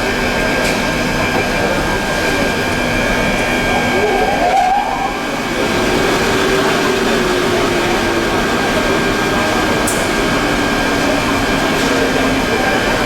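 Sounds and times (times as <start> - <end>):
machinery running with whine: 0.0 - 13.0.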